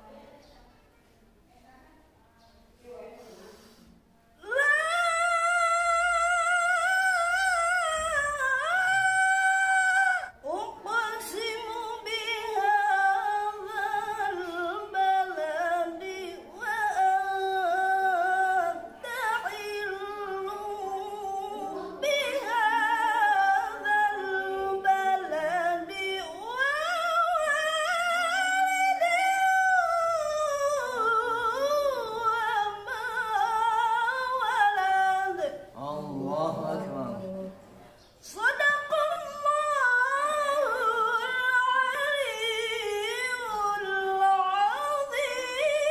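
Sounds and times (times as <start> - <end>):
woman reciting in high voice: 4.4 - 37.3, 38.2 - 45.9.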